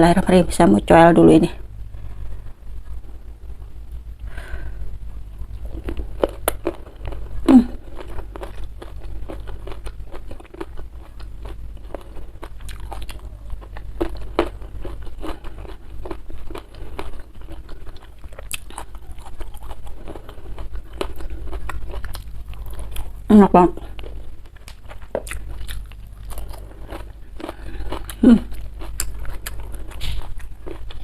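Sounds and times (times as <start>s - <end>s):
crunchy food chewing: 5.1s - 31.0s.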